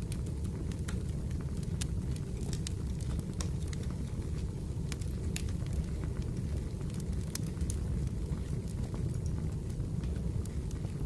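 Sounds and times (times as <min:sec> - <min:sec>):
fire crackling: 0:00.0 - 0:11.0
wood fire rumbling: 0:00.0 - 0:11.0.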